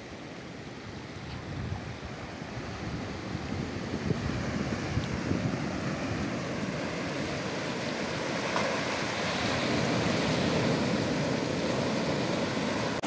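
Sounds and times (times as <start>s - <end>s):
ocean surf breaking over rocks: 0.0s - 13.0s.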